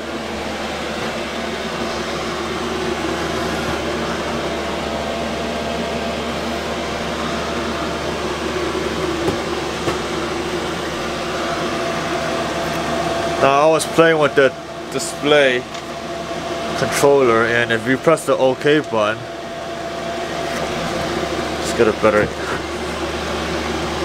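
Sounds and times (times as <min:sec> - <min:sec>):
heater fan whirring: 0:00.0 - 0:24.0
steady hum tones: 0:00.0 - 0:24.0.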